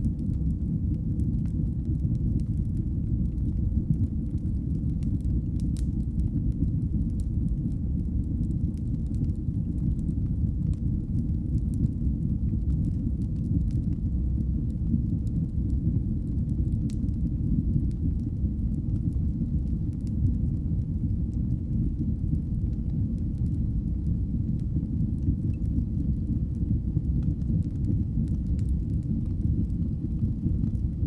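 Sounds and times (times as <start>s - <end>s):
fire crackles: 0.0s - 31.0s
low rumble of flames: 0.0s - 31.0s.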